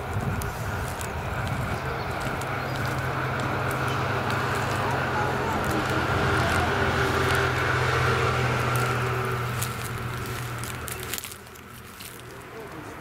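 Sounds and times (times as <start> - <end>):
dry grass and twigs crackling: 0.0 - 13.0
vehicle engine idling: 0.0 - 13.0.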